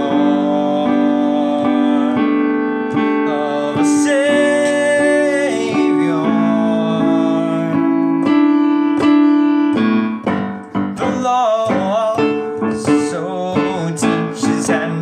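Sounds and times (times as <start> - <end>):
man singing: 0.0 - 9.4, 10.9 - 15.0
piano chords: 0.0 - 15.0.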